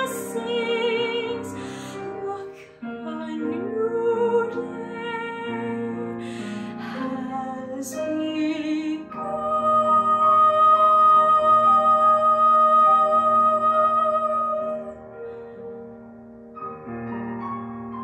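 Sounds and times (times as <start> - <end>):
girl singing slow ballad: 0.0 - 15.0.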